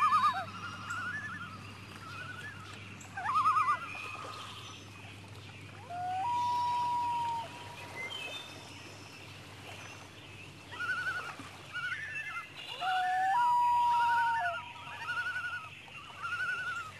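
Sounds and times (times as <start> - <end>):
loons calling: 0.0 - 4.6, 5.7 - 9.0, 10.6 - 16.9.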